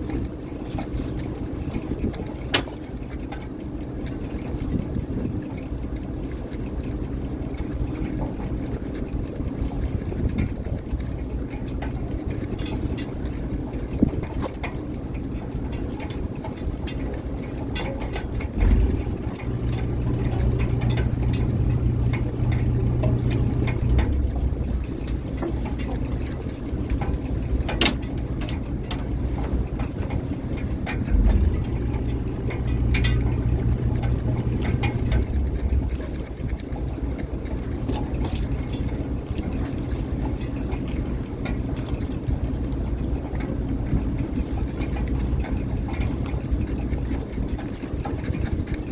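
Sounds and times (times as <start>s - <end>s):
boat engine humming: 0.0s - 48.9s.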